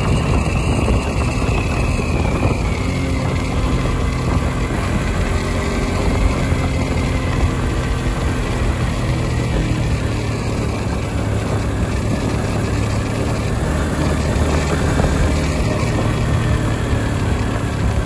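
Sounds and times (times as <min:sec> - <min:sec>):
motorcycle engine humming: 0:00.0 - 0:18.0
wind and road noise: 0:00.0 - 0:18.0.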